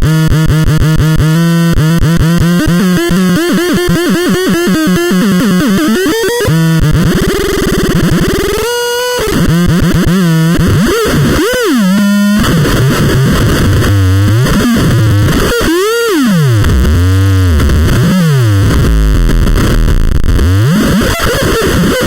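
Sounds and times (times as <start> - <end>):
distorted synthesizer tones: 0.0 - 22.0
low steady synthesizer buzz: 0.0 - 22.0.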